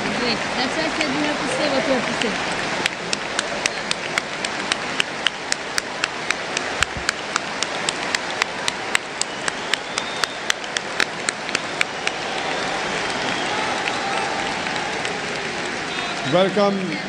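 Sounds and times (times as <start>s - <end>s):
large crowd applauding: 0.0s - 17.0s
sharp rhythmic claps: 2.0s - 17.0s.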